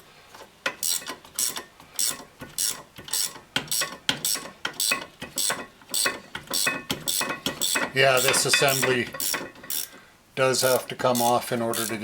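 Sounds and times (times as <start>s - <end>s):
ratchet wrench clicking: 0.7s - 10.0s, 11.1s - 12.0s.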